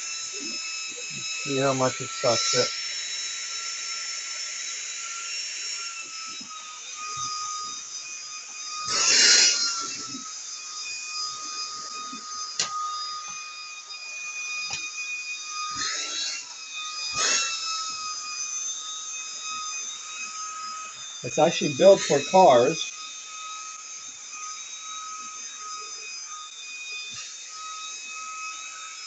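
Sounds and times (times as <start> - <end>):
handheld vacuum whining: 0.0 - 29.0.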